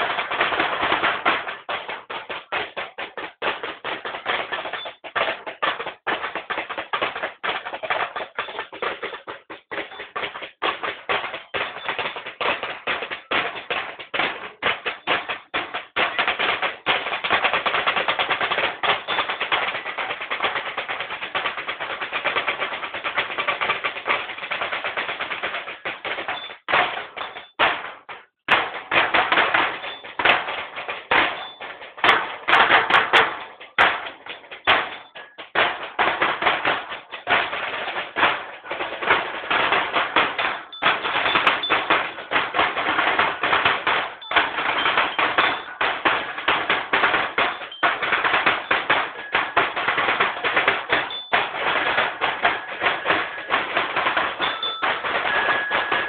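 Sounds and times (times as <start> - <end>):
marching drums playing rolls: 0.0 - 56.0.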